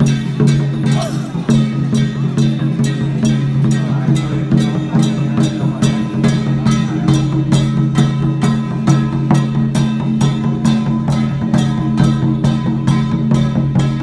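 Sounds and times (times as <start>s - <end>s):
steady percussion beat: 0.0s - 14.0s.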